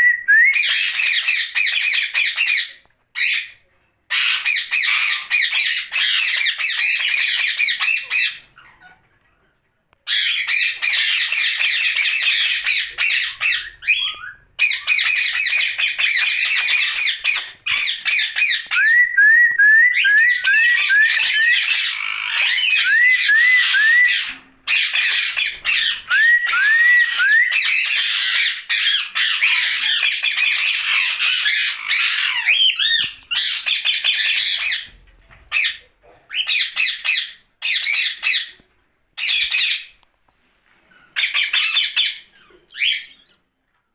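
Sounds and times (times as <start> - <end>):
parakeet chattering and squawking: 0.6 - 9.2, 10.0 - 18.8, 20.2 - 22.9, 23.6 - 26.1, 27.0 - 34.9, 35.5 - 38.6, 39.2 - 40.0, 40.9 - 43.4.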